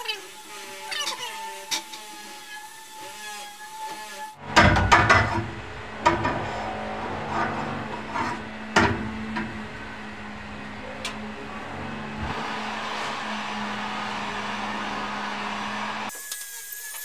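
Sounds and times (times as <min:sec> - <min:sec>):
heat gun humming and blowing: 0:00.0 - 0:04.6, 0:05.6 - 0:17.0.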